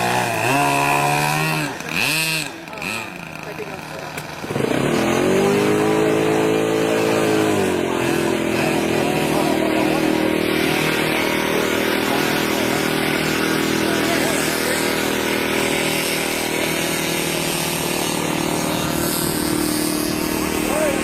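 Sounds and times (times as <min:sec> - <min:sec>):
small engine revving: 0:00.0 - 0:21.0.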